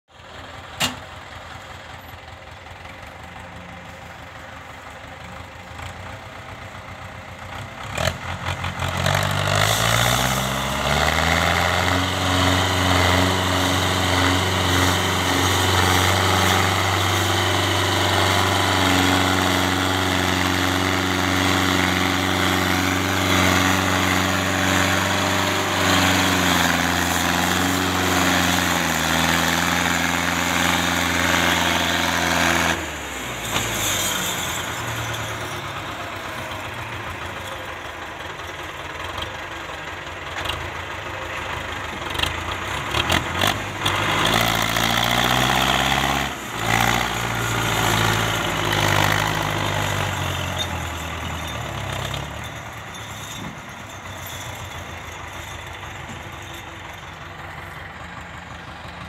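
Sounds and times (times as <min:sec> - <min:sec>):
tractor diesel engine revving: 0:00.2 - 0:59.0.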